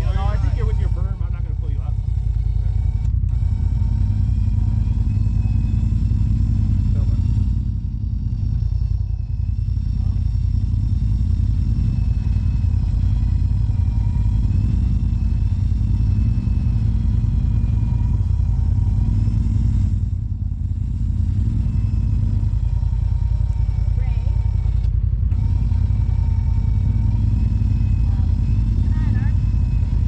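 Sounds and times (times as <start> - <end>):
faint wavering whine: 0.0 - 30.0
utility vehicle engine rumbling: 0.0 - 30.0.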